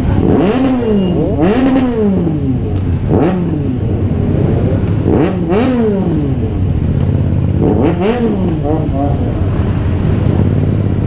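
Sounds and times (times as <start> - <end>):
motorcycle engine revving: 0.0 - 11.0
motorcycles idling: 0.0 - 11.0.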